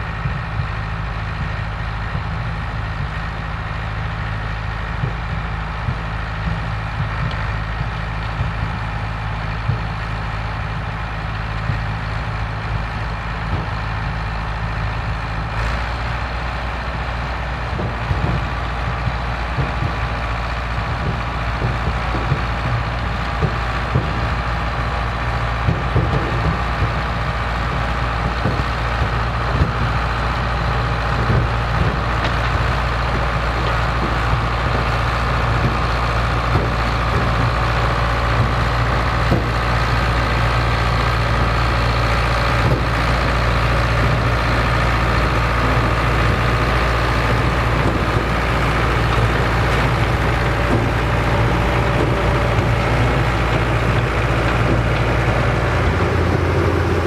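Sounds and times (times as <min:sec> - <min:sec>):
harvesting machinery rattling: 0:00.0 - 0:57.0
tractor engine running: 0:00.0 - 0:57.0.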